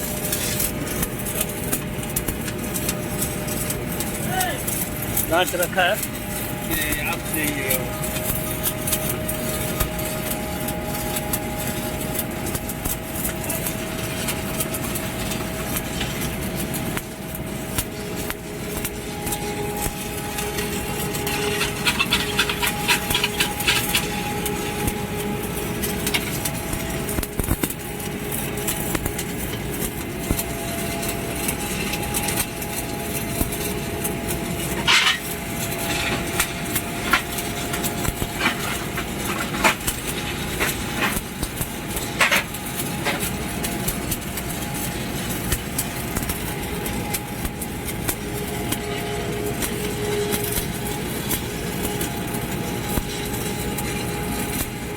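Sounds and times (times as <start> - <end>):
steady hum: 0.0 - 54.9
welding arc crackling: 0.0 - 54.9.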